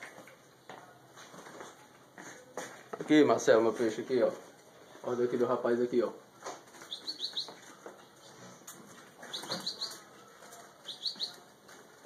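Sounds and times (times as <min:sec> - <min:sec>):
birds rustling and fluttering: 0:00.0 - 0:12.0
songbirds chirping: 0:00.0 - 0:12.0.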